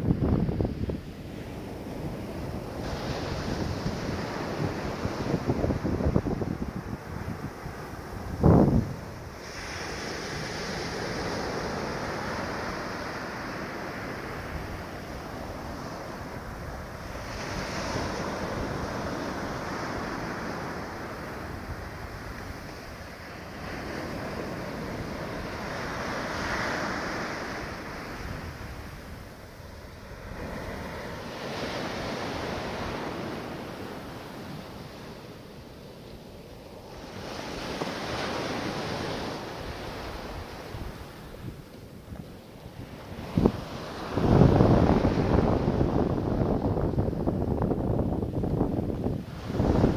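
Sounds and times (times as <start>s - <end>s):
small waves breaking on beach: 0.0s - 49.9s
wind buffeting microphone: 0.0s - 49.9s.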